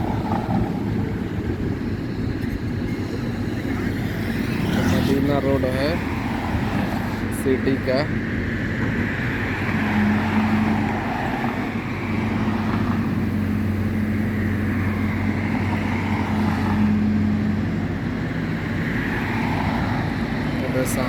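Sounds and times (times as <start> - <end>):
car engine hum: 0.0 - 21.0
tyre and road noise: 0.0 - 21.0.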